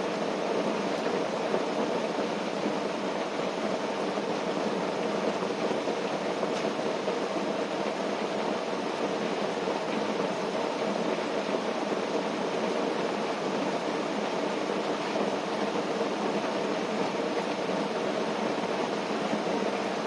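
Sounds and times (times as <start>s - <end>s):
rain pattering on a tent: 0.0s - 20.0s.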